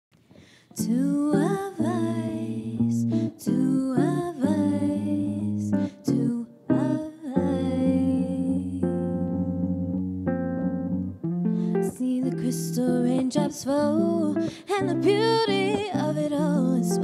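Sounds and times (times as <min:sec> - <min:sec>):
woman singing: 0:00.6 - 0:09.6, 0:11.6 - 0:17.0
electric guitar chords: 0:00.8 - 0:17.0.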